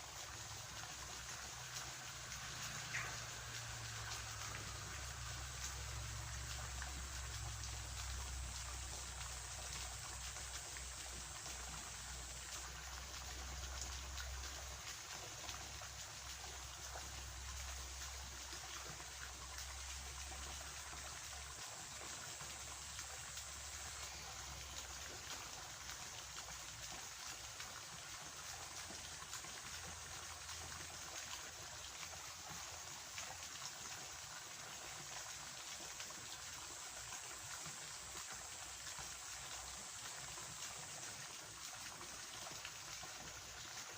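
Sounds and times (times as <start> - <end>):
water trickling in a ditch: 0.0 - 43.9.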